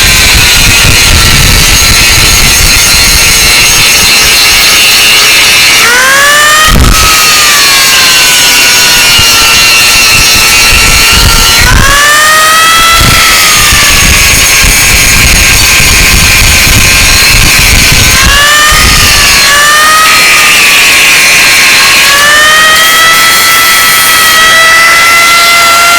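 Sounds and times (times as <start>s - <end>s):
angle grinder whining: 0.0s - 25.9s.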